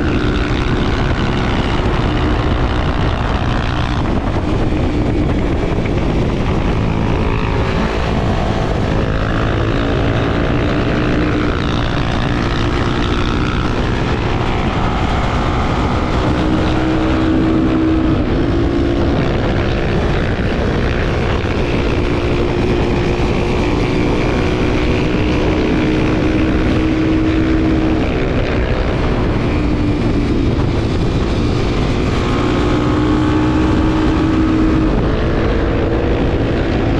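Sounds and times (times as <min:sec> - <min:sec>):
motorcycle engine running: 0:00.0 - 0:36.9
wind rush over microphone: 0:00.0 - 0:36.9.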